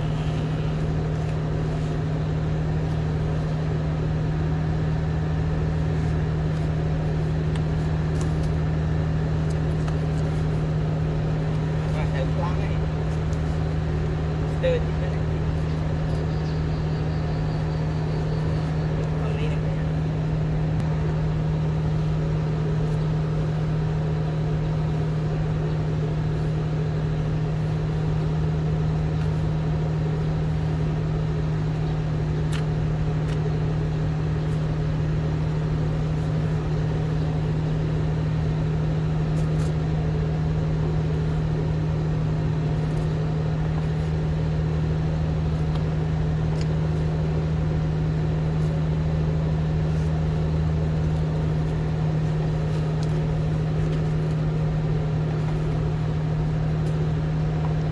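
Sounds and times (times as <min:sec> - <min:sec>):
low motor hum: 0:00.0 - 0:57.9.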